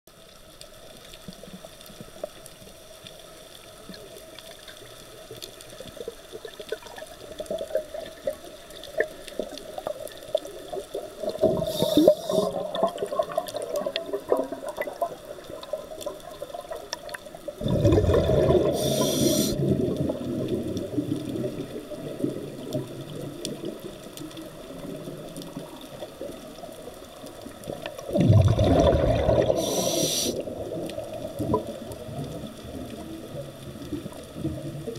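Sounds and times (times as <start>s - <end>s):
faint underwater hiss: 0.1s - 34.9s
exhaled air bubbling underwater: 3.6s - 34.9s.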